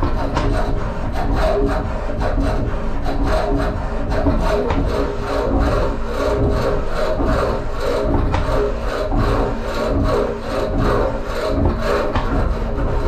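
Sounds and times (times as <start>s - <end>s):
engraving tool scraping metal: 0.0s - 13.0s
machine hum: 0.0s - 13.0s.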